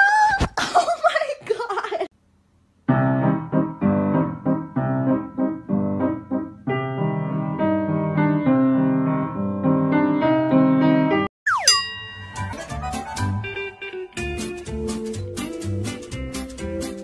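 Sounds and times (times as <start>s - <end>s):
piano music: 2.9s - 17.0s.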